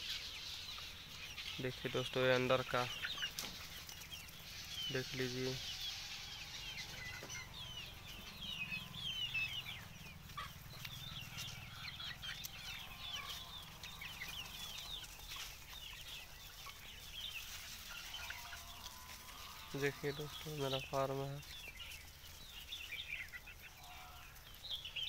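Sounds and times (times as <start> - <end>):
chickens clucking: 0.0 - 25.0
chicks peeping: 0.0 - 25.0.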